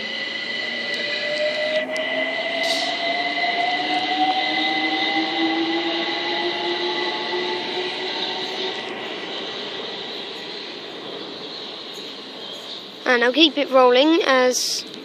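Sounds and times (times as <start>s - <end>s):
electric train motor whine: 0.0s - 13.5s
steady high tone: 0.0s - 14.5s
train rumble: 0.0s - 15.0s.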